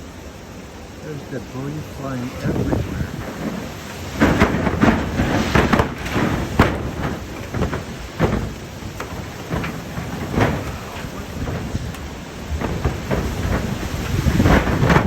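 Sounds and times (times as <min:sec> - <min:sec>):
wind gusting against microphone: 0:00.0 - 0:15.0.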